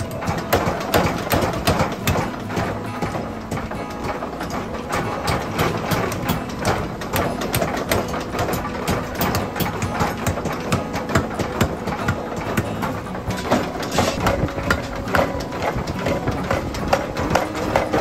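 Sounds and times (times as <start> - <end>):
hum of hammer drive: 0.0 - 18.0
power hammer pounding steel: 0.0 - 18.0.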